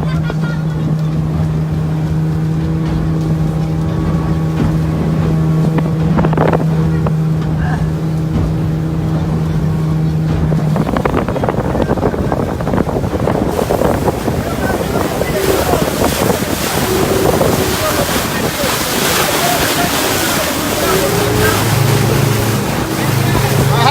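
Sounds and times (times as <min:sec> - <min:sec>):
boat engine droning: 0:00.0 - 0:23.9
wind and water rushing: 0:00.0 - 0:23.9.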